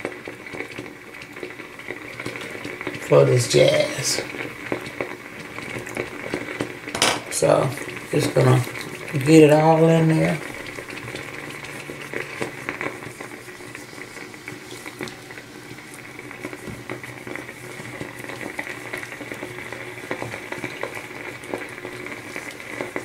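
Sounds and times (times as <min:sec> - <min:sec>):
facial steamer bubbling: 0:00.0 - 0:23.0.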